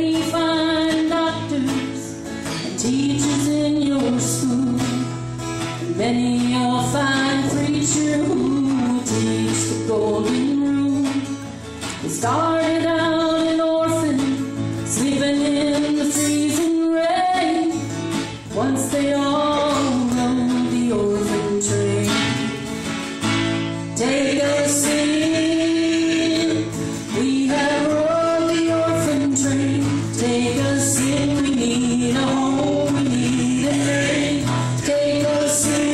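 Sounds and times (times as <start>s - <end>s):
woman and man singing: 0.0s - 5.2s, 5.8s - 11.4s, 12.0s - 17.9s, 18.5s - 22.8s, 23.9s - 35.9s
acoustic guitar: 0.0s - 35.9s.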